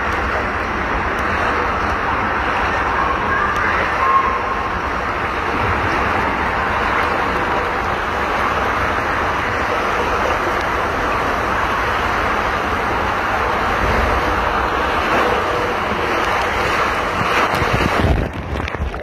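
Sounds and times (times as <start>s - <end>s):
water rushing down slide: 0.0s - 19.0s.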